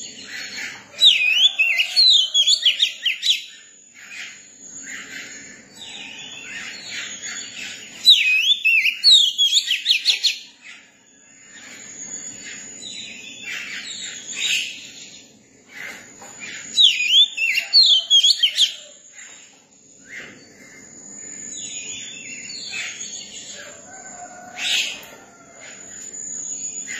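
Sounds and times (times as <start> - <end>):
bird singing: 0.0 - 26.9.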